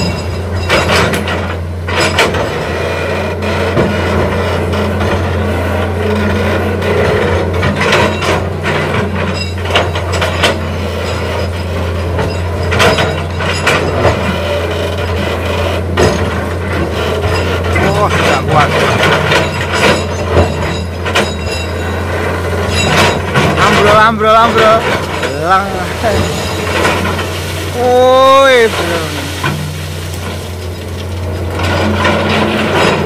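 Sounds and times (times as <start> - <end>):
diesel engine running: 0.0 - 33.0
excavator knocks and clatters: 0.0 - 33.0.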